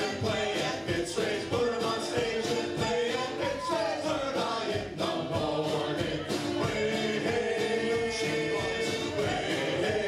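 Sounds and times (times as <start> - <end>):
acoustic guitars: 0.0 - 10.0
mandolin: 0.0 - 10.0
steady drum beat: 0.0 - 10.0
voices singing together: 0.0 - 10.0.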